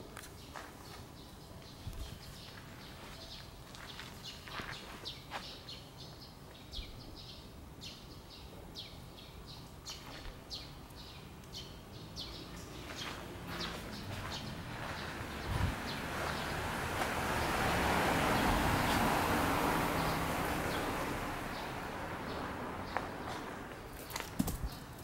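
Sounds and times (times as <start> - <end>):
small birds chirping: 0.2 - 25.0.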